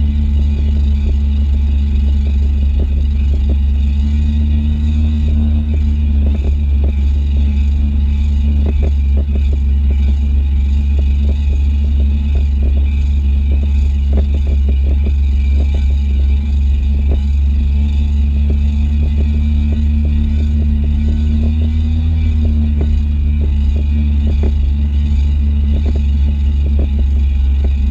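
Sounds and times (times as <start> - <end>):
jet ski engine droning: 0.0 - 27.9.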